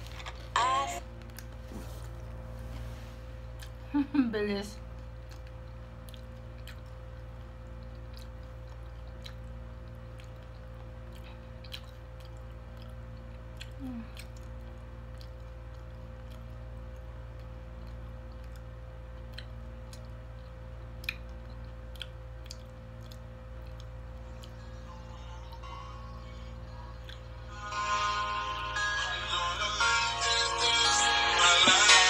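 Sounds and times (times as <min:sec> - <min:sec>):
low hum: 0:00.0 - 0:32.0
person chewing chips: 0:04.9 - 0:32.0.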